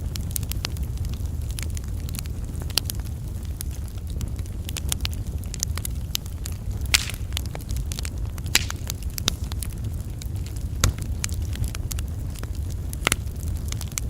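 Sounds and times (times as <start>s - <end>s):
campfire flame rumble: 0.0s - 14.0s
fire crackles and pops: 0.0s - 14.0s.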